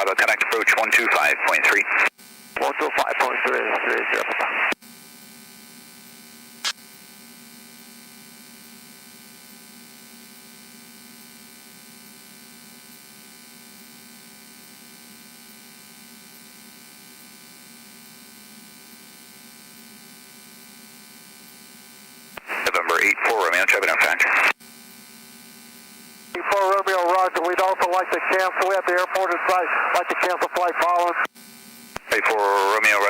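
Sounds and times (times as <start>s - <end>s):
radio electrical hum and buzz: 0.0s - 33.0s.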